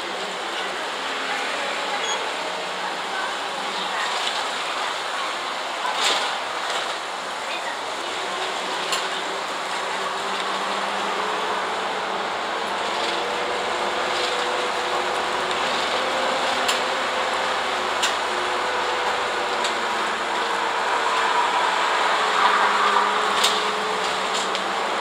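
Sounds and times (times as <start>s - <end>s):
bus engine and road noise drone: 0.0s - 25.0s.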